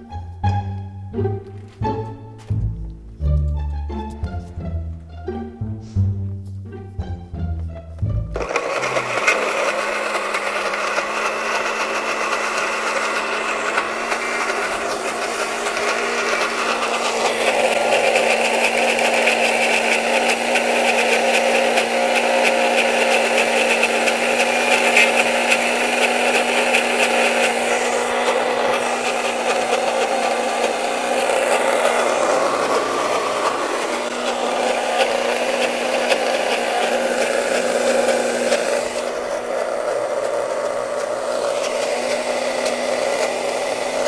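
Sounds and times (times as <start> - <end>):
blender running: 8.3 - 44.0.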